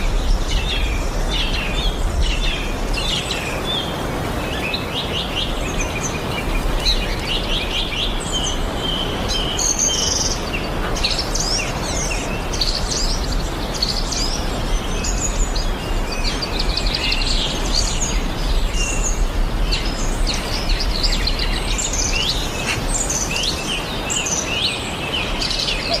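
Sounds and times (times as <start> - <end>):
birds chirping: 0.0 - 26.0
low rushing background noise: 0.0 - 26.0.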